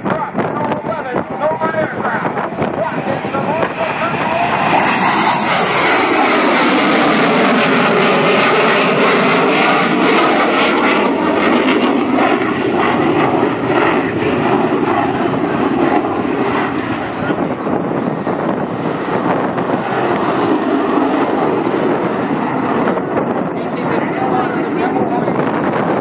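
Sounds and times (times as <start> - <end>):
fighter jet roar: 0.0 - 26.0.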